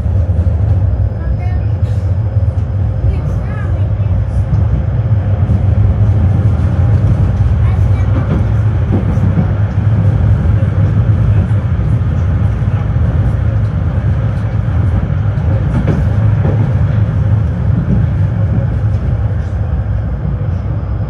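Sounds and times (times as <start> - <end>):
tram rumbling on rails: 0.0 - 21.0.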